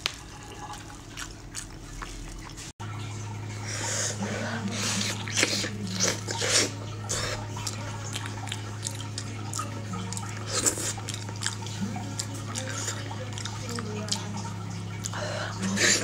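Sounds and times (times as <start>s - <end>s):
wet chewing and lip-smacking: 0.0s - 2.7s, 4.7s - 16.0s
steady low hum: 0.0s - 16.0s.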